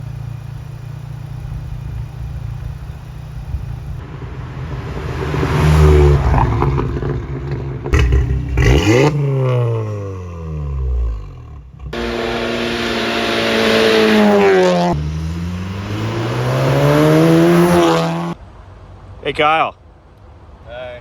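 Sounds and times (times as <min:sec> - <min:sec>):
car exhaust idling and revving: 0:00.0 - 0:18.4.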